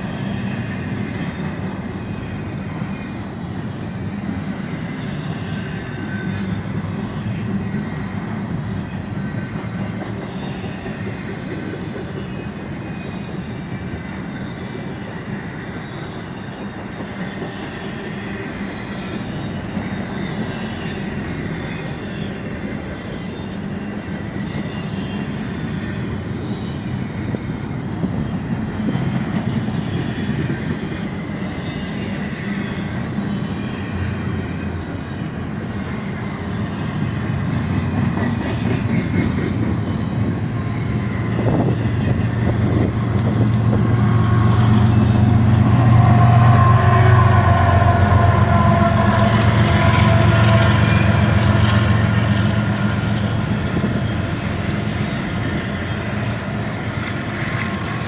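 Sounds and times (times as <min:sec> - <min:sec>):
freight train wheels rumbling on rail: 0:00.0 - 0:58.0.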